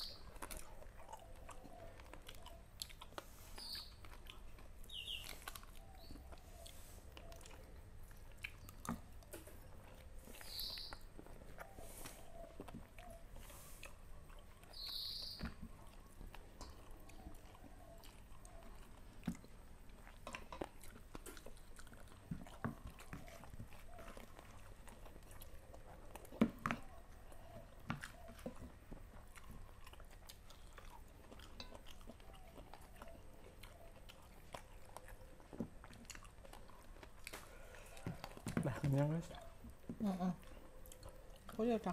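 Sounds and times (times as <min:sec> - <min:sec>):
chewing and lip smacks: 0:00.0 - 0:41.9.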